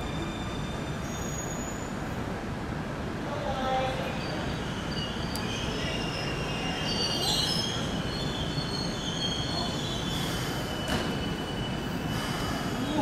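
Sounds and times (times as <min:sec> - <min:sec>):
electric train brakes squealing: 0:00.0 - 0:02.1, 0:04.1 - 0:13.0.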